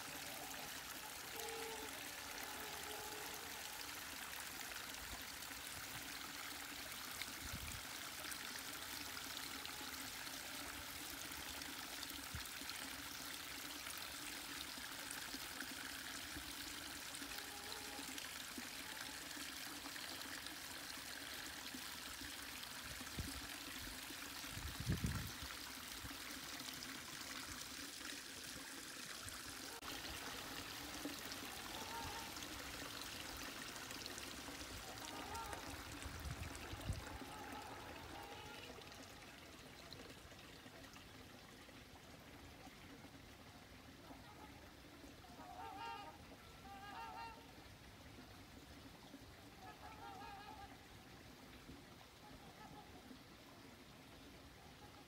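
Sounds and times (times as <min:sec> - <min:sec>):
water trickling between rocks: 0:00.0 - 0:55.0.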